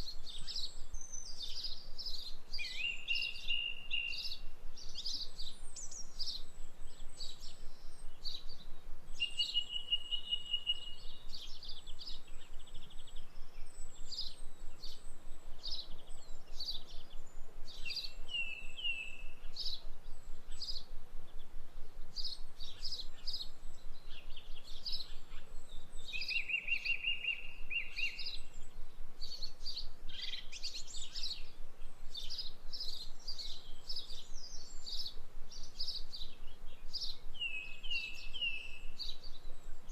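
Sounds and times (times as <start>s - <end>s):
faint steady hiss: 0.0s - 39.9s
songbirds chirping: 0.0s - 39.9s.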